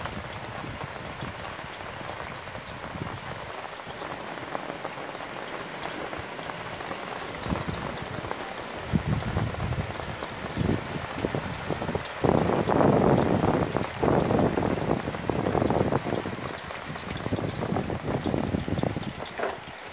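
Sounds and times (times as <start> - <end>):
light rain falling: 0.0 - 19.9
raindrops ticking on surfaces: 0.0 - 19.9
wind rumble on microphone: 0.0 - 19.9.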